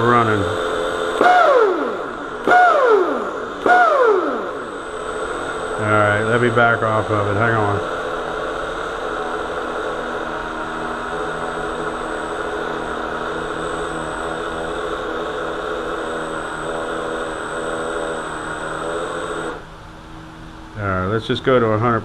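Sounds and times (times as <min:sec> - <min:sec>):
electric motor whining: 0:00.0 - 0:21.7.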